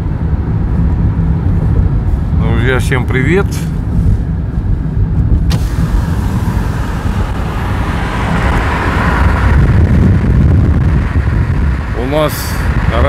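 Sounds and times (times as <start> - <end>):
engine and tyres rumbling on road: 0.0 - 13.0
wind rushing over microphone: 0.0 - 13.0.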